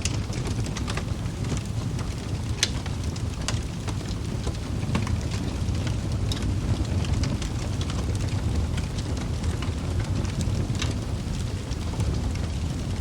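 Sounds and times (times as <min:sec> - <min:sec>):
fire flames rumbling: 0:00.0 - 0:13.0
logs crackling and popping: 0:00.0 - 0:13.0.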